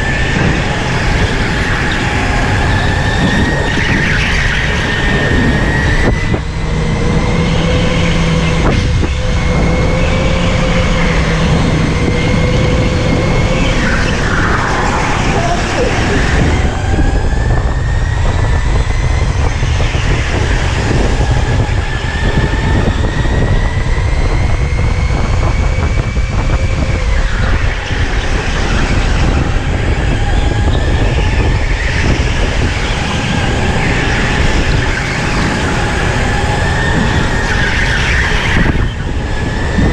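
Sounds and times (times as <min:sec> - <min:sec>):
electric motor whine: 0:00.0 - 0:39.9
tyres rumbling on track: 0:00.0 - 0:39.9.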